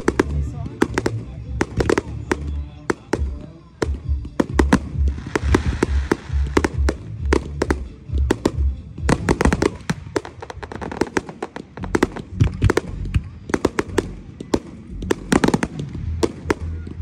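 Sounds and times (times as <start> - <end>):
fireworks bangs and crackle: 0.0 - 17.0.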